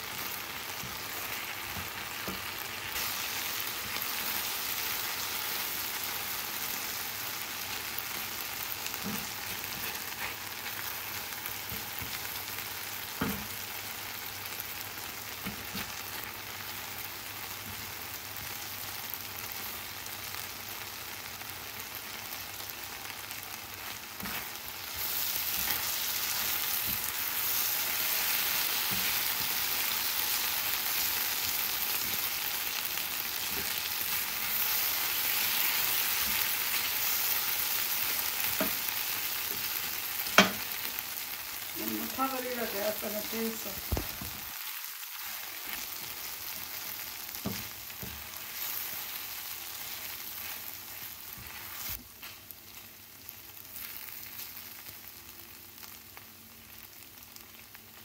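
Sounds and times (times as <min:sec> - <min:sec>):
chicken sizzling in frying pan: 0:00.0 - 0:58.0.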